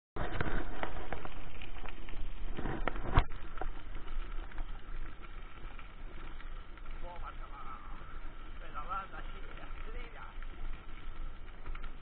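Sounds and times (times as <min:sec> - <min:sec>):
bike knocking and rattling: 0:00.2 - 0:12.0
tyres crunching on gravel: 0:00.2 - 0:12.0.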